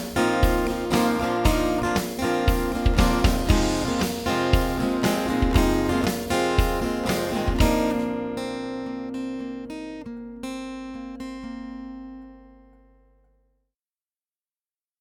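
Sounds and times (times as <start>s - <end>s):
guitar strummed and plucked: 0.0s - 13.4s.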